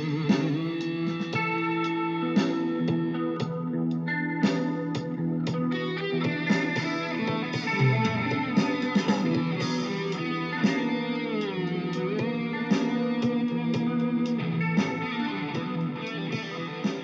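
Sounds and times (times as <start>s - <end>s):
distorted electric guitar notes: 0.0s - 17.0s.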